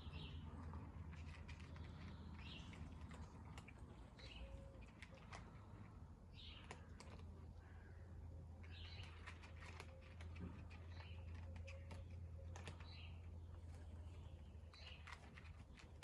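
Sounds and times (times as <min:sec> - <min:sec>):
cats chewing food: 0:00.0 - 0:16.0.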